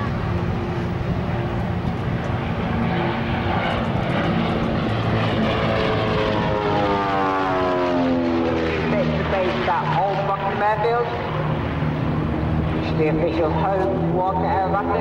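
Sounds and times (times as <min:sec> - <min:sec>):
aircraft engine droning overhead: 0:00.0 - 0:15.0.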